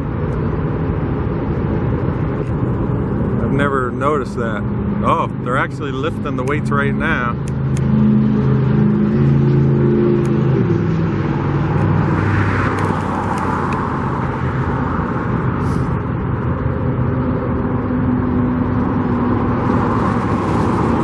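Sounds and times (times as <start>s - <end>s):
low engine hum: 0.0s - 21.0s
road noise: 0.0s - 21.0s
vehicle engines: 0.0s - 21.0s.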